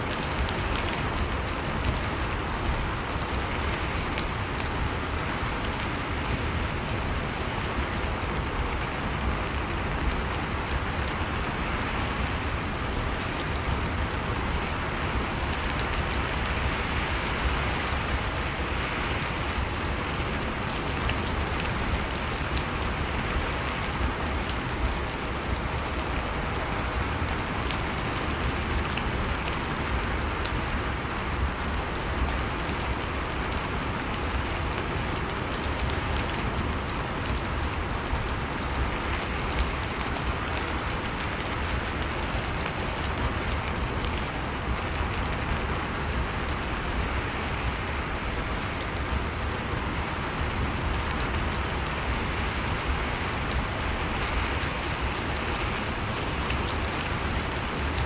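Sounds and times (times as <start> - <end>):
steady rain: 0.0 - 58.0
faint raindrop ticks: 6.6 - 58.0.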